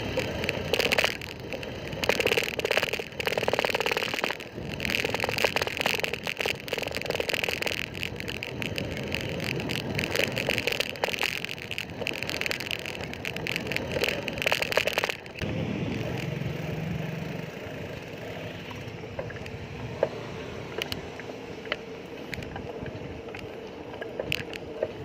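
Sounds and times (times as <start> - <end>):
bicycle rattling: 0.0 - 25.0
rapid bicycle clicking: 0.0 - 25.0.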